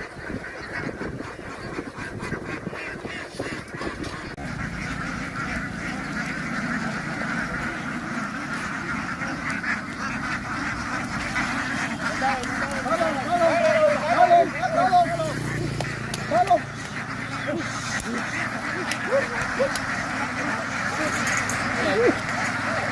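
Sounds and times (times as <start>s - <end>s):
flock of ducks quacking: 0.0s - 22.9s.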